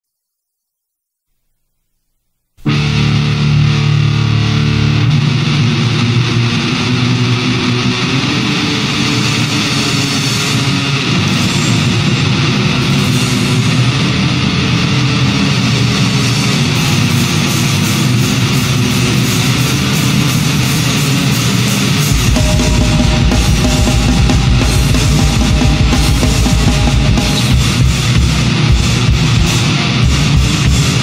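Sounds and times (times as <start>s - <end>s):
distorted electric guitar riff: 2.6s - 31.0s.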